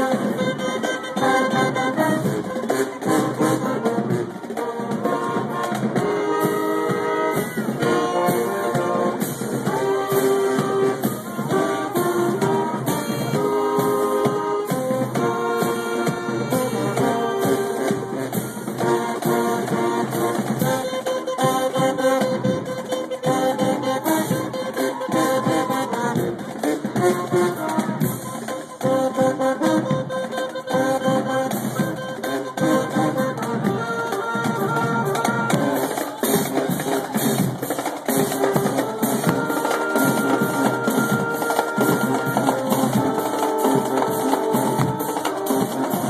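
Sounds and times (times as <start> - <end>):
brass playing tune: 0.0 - 46.0
marching band playing: 0.0 - 46.0
steady drum beat: 0.0 - 46.0.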